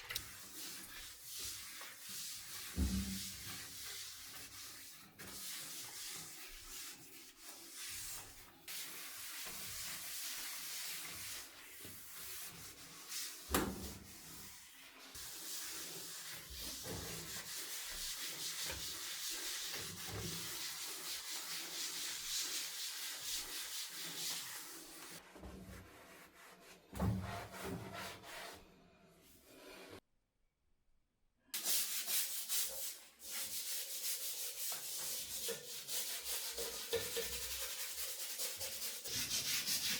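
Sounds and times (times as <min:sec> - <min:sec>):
scrubbing bathtub by hand: 0:00.0 - 0:30.0, 0:31.6 - 0:39.9.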